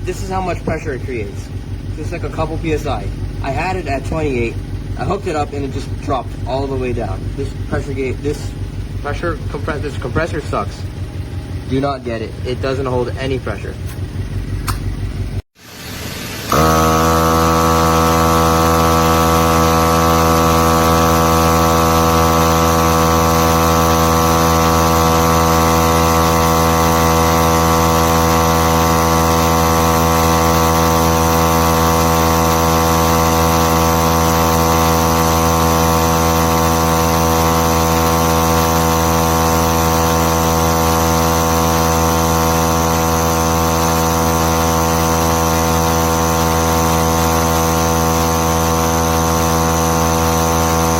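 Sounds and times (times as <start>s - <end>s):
electric tire compressor running: 0.0s - 50.9s.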